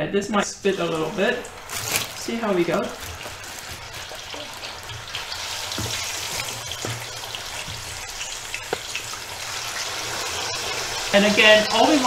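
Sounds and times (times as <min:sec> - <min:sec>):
chicken sizzling in hot oil: 0:00.5 - 0:12.0
oil popping and spitting: 0:01.0 - 0:10.8.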